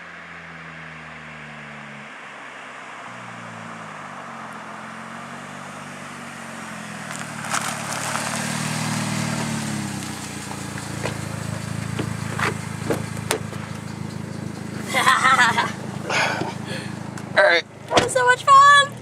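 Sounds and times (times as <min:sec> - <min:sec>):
car engine passing fast: 0:00.0 - 0:19.0.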